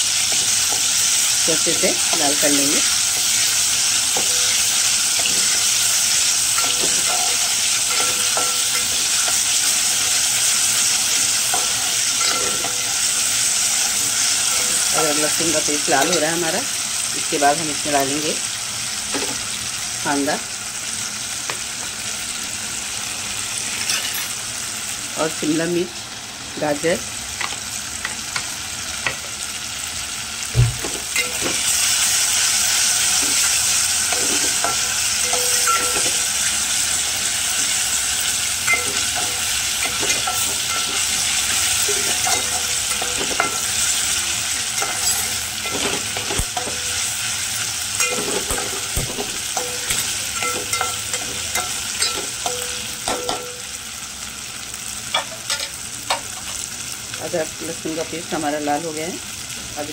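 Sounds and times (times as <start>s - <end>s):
paste sizzling in hot oil: 0.0s - 25.3s, 26.1s - 59.9s.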